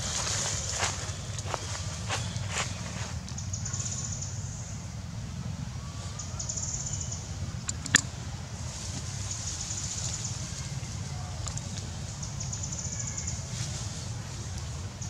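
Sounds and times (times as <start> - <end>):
steady low rumble: 0.0 - 12.7.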